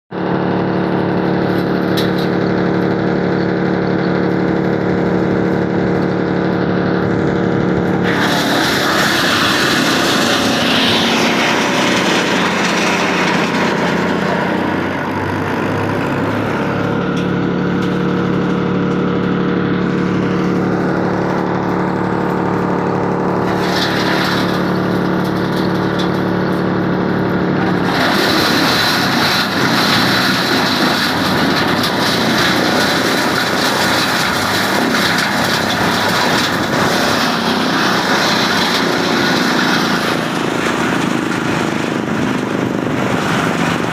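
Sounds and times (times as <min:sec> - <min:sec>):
wood chipper engine hum: 0:00.1 - 0:43.9
wood chipper rasping: 0:00.1 - 0:43.9.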